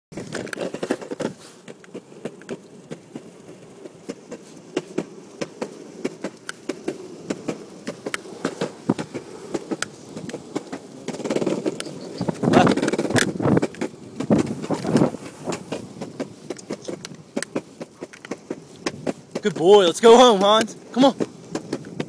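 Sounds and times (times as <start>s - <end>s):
longboard wheels rolling on concrete: 0.1s - 22.0s
wheels clicking over slab joints: 0.1s - 22.0s.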